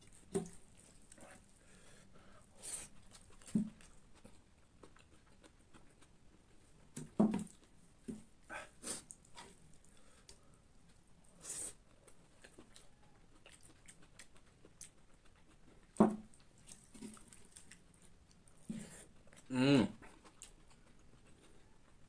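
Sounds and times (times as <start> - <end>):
person chewing: 0.0 - 7.8, 8.6 - 22.0.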